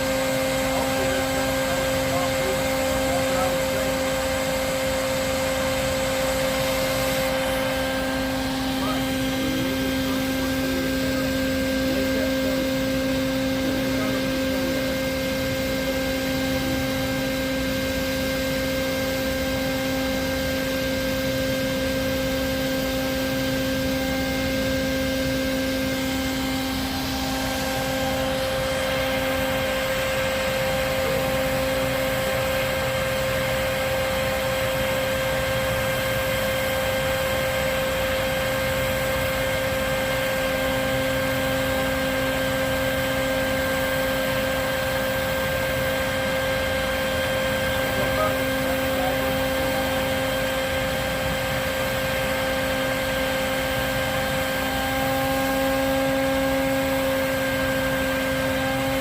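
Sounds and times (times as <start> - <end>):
vacuum motor whine: 0.0 - 59.0.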